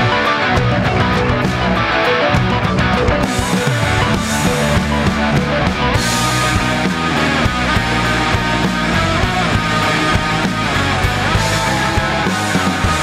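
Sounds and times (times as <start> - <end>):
bass guitar: 0.0 - 13.0
electric guitar lead: 0.0 - 13.0
steady drum beat: 0.0 - 13.0.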